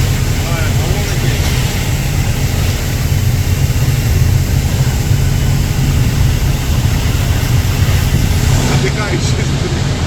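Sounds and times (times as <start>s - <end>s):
boat engine rumbling: 0.0s - 10.0s
water: 0.0s - 10.0s
wind hiss: 0.0s - 10.0s.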